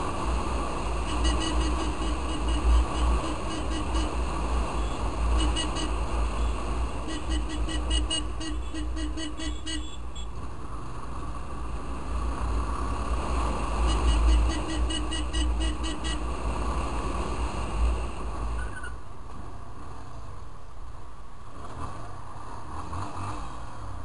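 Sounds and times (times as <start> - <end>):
motorcycle engine and wind rumble: 0.0 - 24.0.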